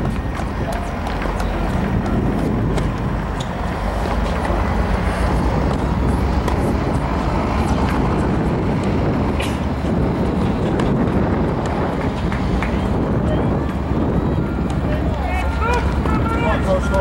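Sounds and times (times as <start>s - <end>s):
low rumbling outdoor noise: 0.0s - 17.0s.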